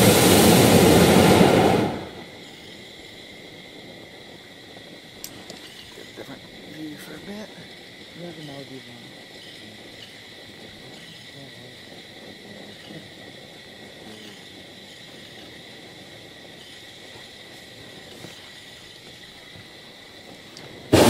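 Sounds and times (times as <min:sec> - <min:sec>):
background hiss: 0:00.0 - 0:21.0
insect chirring: 0:00.0 - 0:21.0.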